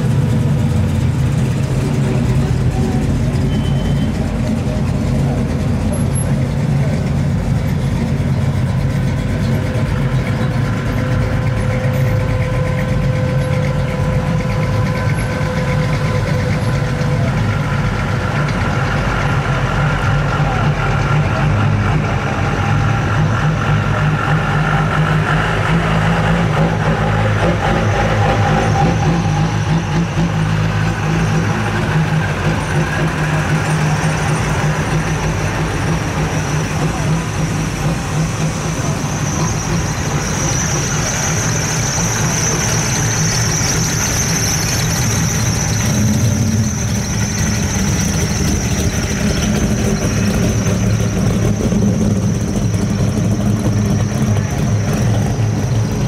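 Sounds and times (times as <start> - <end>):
truck engines idling: 0.0 - 56.0.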